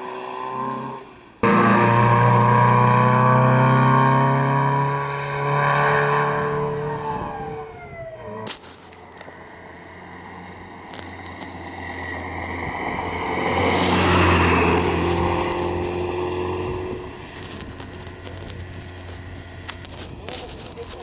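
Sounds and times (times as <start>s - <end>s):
rally car passing by: 0.0s - 21.0s.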